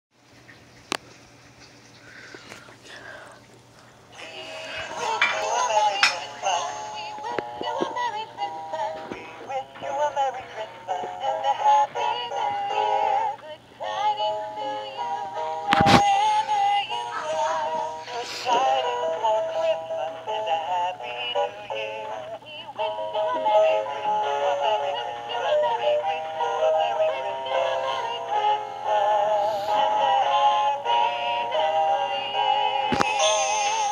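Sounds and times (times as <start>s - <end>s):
toy voices singing a carol: 4.2s - 33.9s.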